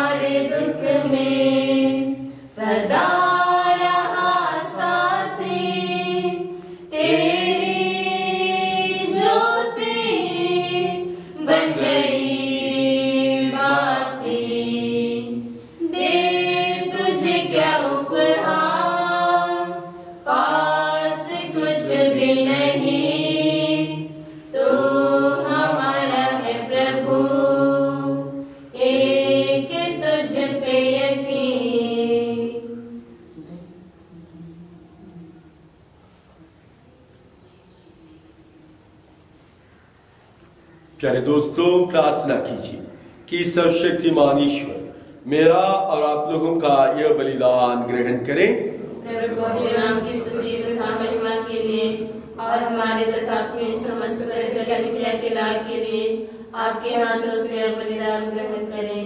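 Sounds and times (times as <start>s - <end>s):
voices singing a hymn: 0.0s - 36.6s, 40.4s - 59.0s.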